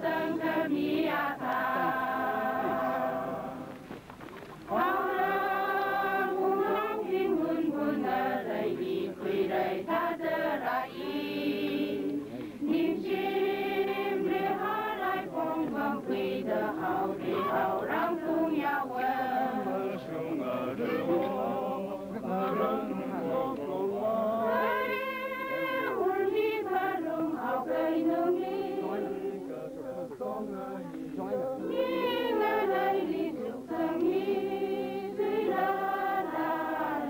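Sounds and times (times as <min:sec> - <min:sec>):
women's choir singing a hymn: 0:00.0 - 0:04.0, 0:04.7 - 0:37.0.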